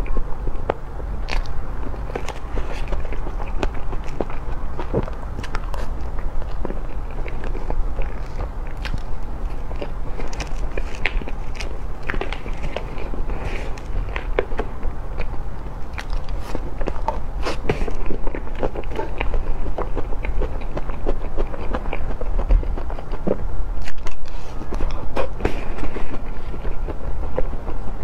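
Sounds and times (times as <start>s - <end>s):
wet chewing and mouth clicks: 0.0s - 28.0s.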